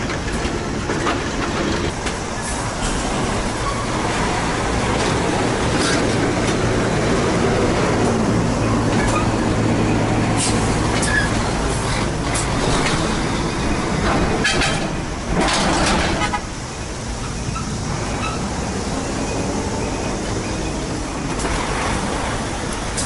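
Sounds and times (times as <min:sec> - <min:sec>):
diesel truck engine drone: 0:00.0 - 0:23.0
trucks rattling and hissing: 0:00.0 - 0:23.0.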